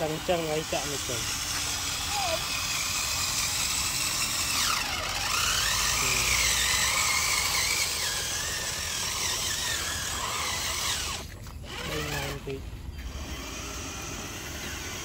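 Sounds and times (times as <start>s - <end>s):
toy truck motor whining: 0.0s - 15.0s.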